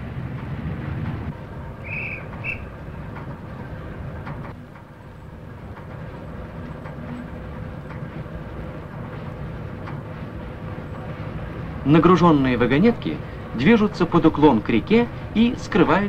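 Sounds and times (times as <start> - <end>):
rail trolleys rumbling: 0.0 - 16.0
wheels clicking on rails: 0.0 - 16.0.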